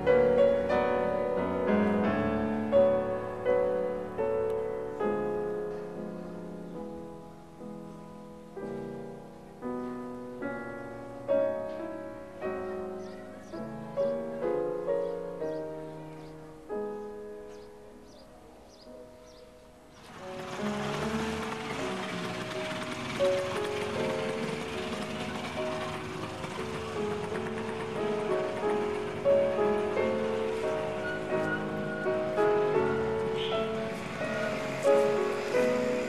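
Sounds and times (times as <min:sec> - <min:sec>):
slow piano chords: 0:00.0 - 0:36.0.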